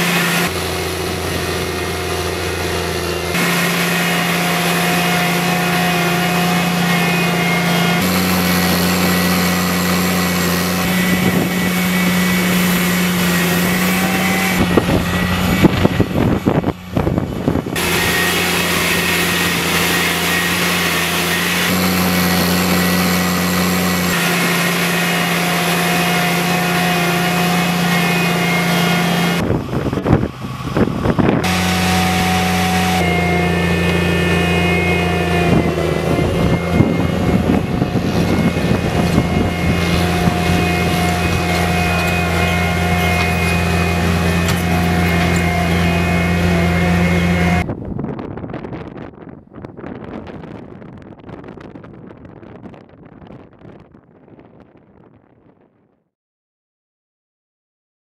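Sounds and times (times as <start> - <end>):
diesel engine droning under load: 0.0 - 55.6.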